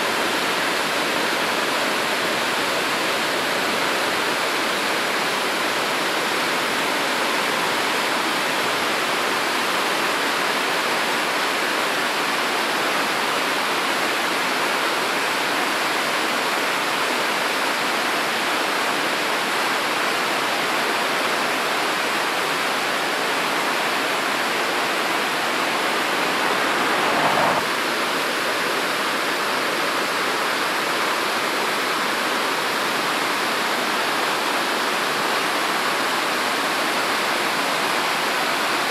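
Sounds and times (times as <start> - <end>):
river rushing over boulders: 0.0 - 38.9.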